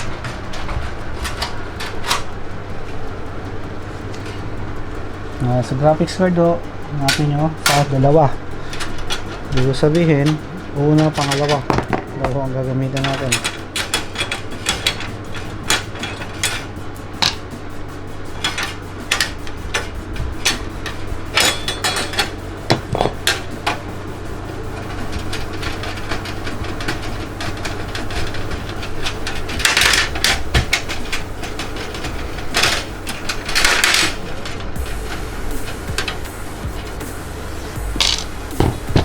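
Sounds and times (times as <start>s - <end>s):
metal clicks knocks and scrapes: 0.0s - 39.0s.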